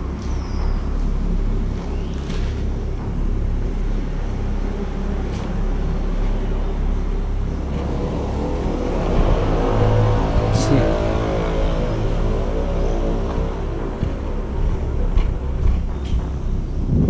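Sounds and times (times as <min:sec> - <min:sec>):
background music held tones: 0:00.0 - 0:17.0
low rumble: 0:00.0 - 0:17.0.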